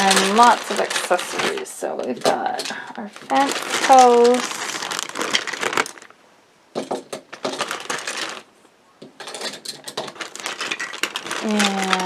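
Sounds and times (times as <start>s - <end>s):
plastic toy pieces clattering: 0.0s - 6.1s, 6.8s - 12.0s.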